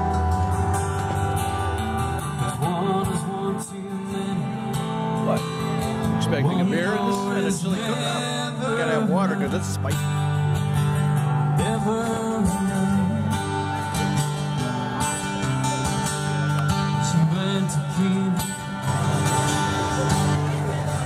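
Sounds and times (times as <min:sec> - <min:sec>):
live country band on guitars: 0:00.0 - 0:21.0.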